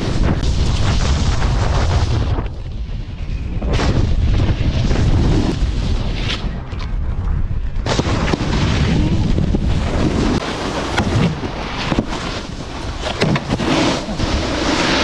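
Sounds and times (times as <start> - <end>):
snowboard on snow: 0.0 - 7.2, 7.8 - 15.0
wind on microphone: 0.0 - 15.0.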